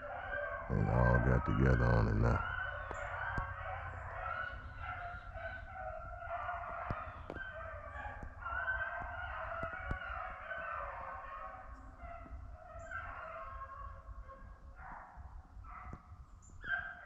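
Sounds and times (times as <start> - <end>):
distant hounds baying: 0.0 - 17.0.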